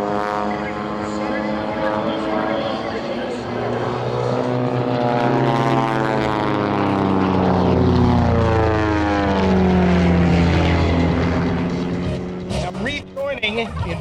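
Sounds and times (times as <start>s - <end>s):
propeller plane flying past: 0.0s - 14.0s
second plane drone: 0.0s - 14.0s.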